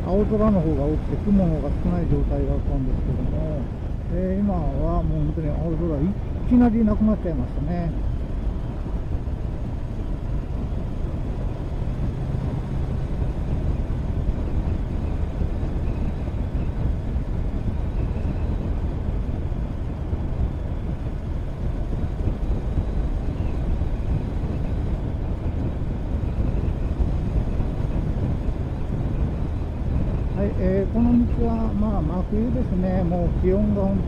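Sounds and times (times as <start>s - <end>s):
motorcycle engine running: 0.0s - 34.0s
wind rumble over microphone: 0.0s - 34.0s.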